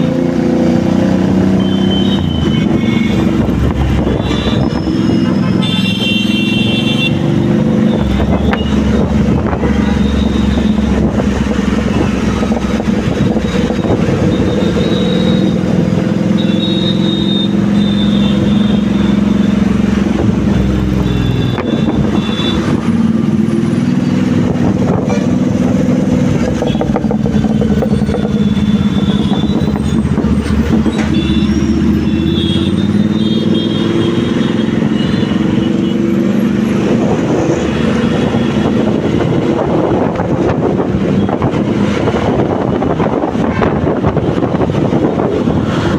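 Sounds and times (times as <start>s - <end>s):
vehicle engines droning: 0.0s - 45.9s.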